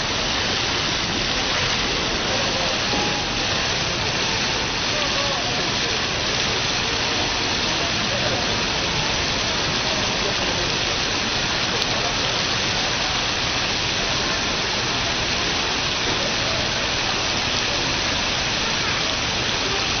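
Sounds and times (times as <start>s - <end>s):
water pouring and splashing: 0.0s - 20.0s.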